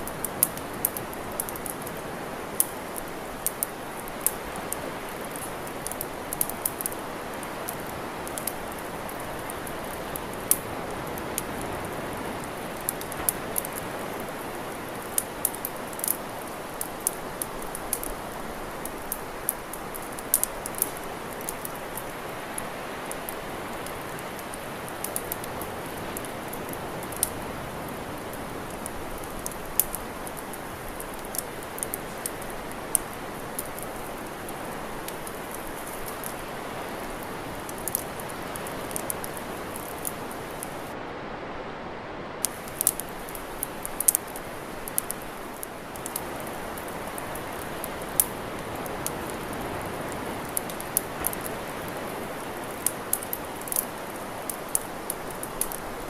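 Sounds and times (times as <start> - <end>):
campfire crackling: 0.0 - 41.1, 42.3 - 56.0.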